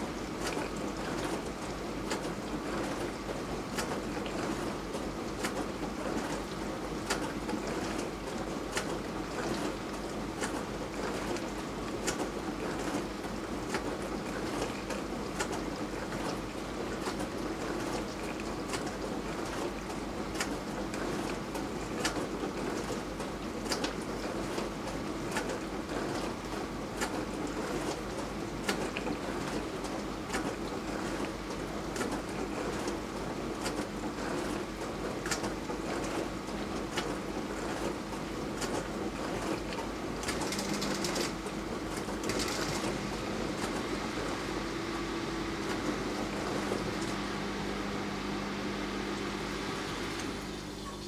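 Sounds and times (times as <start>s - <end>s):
dishwasher pump hum: 0.0s - 51.0s
water spraying and sloshing: 0.0s - 51.0s.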